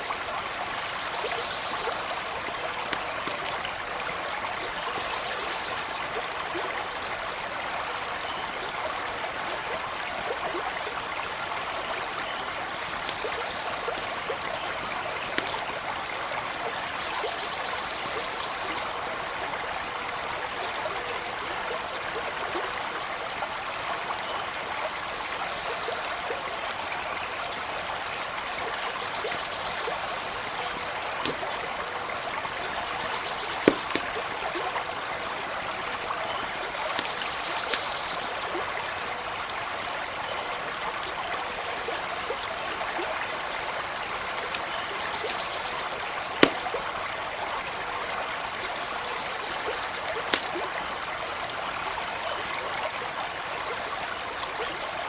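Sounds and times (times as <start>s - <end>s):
campfire crackles and pops: 0.0s - 23.6s, 26.0s - 51.7s
stream rushing and babbling: 0.0s - 55.0s.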